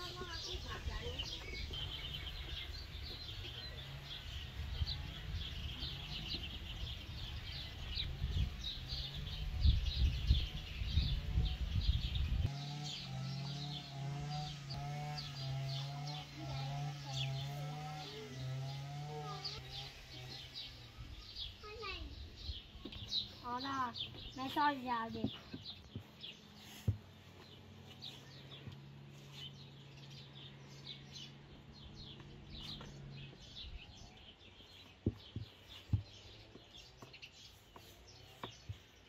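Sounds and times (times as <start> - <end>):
small birds chirping and singing: 0.0 - 39.0.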